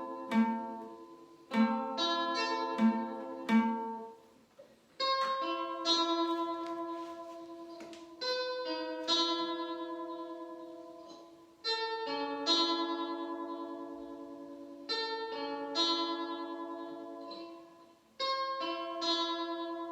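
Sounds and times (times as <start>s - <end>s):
slow guitar music: 0.0s - 4.3s, 5.0s - 19.9s.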